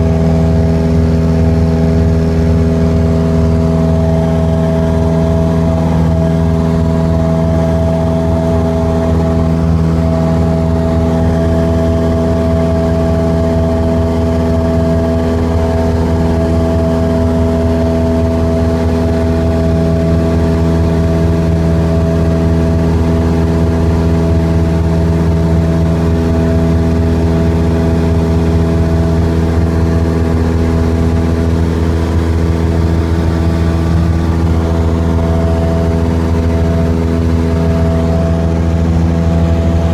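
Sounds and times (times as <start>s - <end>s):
airplane engine drone in cabin: 0.0s - 39.9s.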